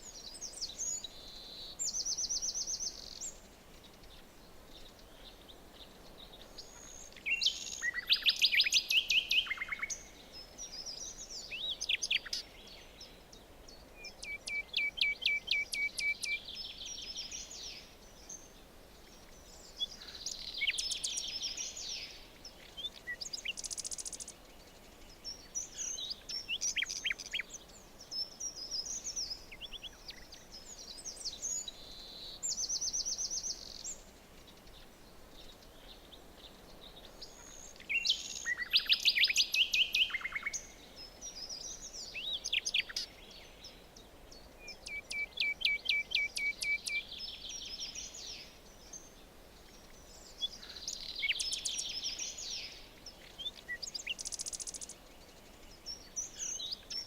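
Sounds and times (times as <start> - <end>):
faint background hiss: 0.0 - 57.0
songbirds singing and calling: 0.0 - 57.0.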